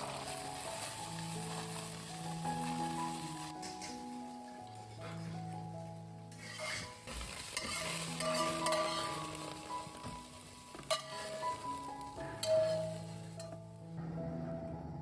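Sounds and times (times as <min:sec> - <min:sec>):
food sizzling in stir-fry: 0:00.0 - 0:13.8
light background music: 0:00.0 - 0:15.0.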